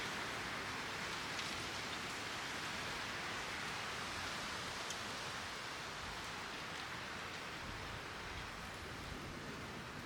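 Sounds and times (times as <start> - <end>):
campfire burning: 0.0 - 10.0
fire crackle: 0.0 - 10.0.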